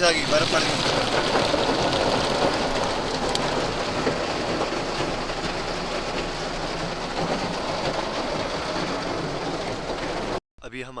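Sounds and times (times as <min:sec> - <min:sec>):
water splattering onto a car: 0:00.0 - 0:10.4.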